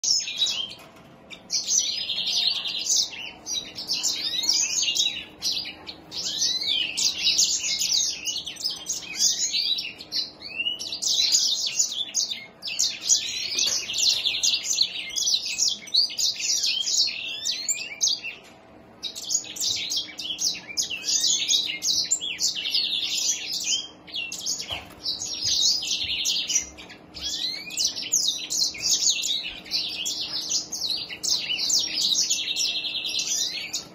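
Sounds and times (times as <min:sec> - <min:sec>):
finch singing twittering song: 0:00.0 - 0:33.9.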